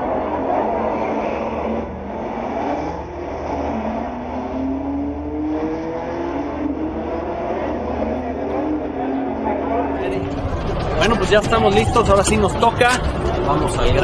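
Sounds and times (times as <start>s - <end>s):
car engines accelerating: 0.0s - 14.0s.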